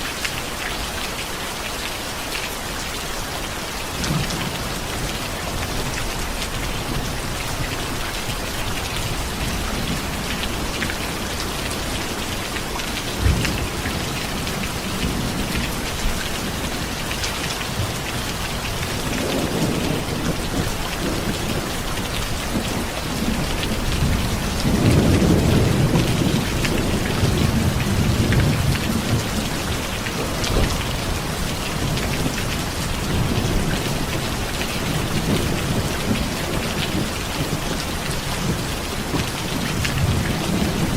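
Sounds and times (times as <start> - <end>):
heavy rain hissing and pattering: 0.0 - 40.9
thunder cracking and rumbling: 4.0 - 40.9.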